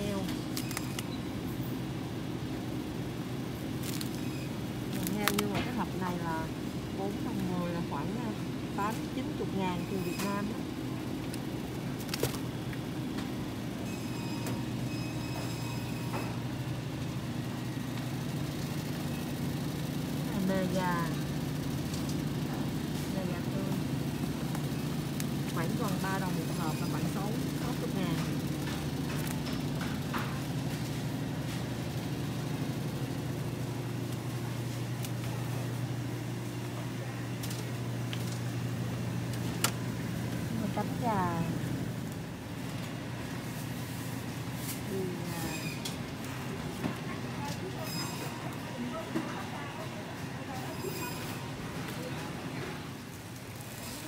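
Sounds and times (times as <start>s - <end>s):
refrigerator electrical hum: 0.0s - 54.0s.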